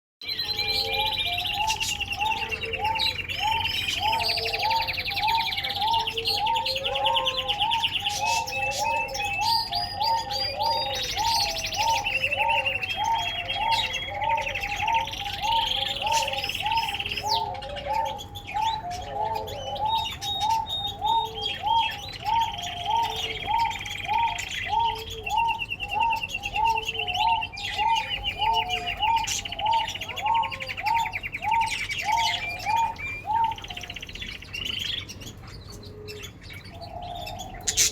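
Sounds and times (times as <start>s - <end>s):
canary singing trills: 0.2s - 37.9s.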